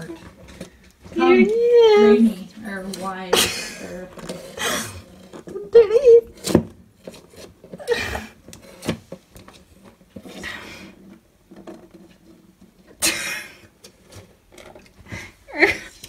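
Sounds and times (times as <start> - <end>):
tortoise scraping on wooden floor: 0.0 - 15.3.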